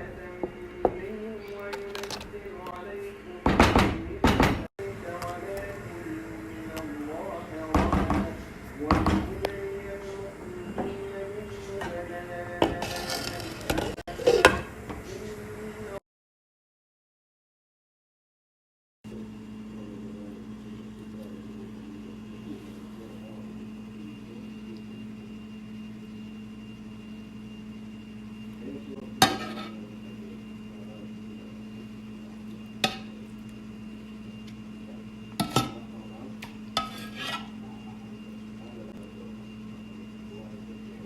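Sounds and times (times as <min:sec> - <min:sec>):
low appliance hum: 0:00.0 - 0:16.0, 0:19.1 - 0:41.0.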